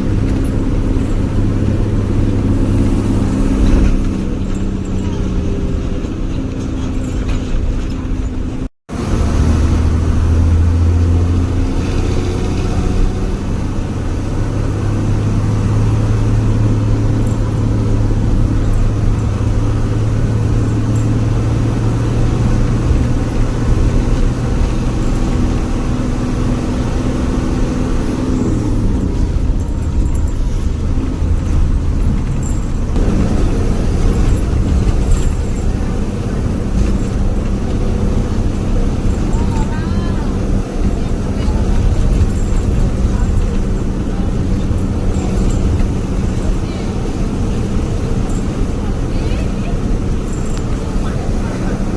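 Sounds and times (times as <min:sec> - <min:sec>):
bus diesel engine droning: 0:00.0 - 0:51.9.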